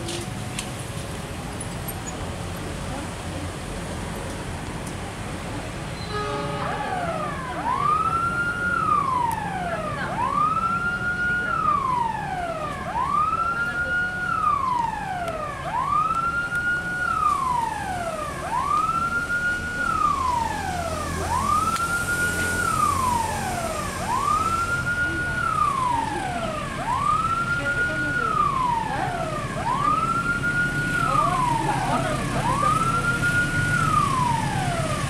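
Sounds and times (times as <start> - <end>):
level-crossing warning siren wailing: 6.0 - 35.0.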